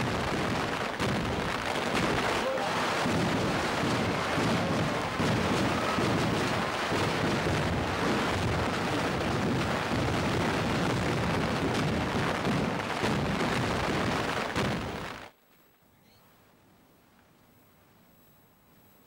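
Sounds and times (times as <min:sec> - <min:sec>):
firecrackers crackling: 0:00.0 - 0:15.3.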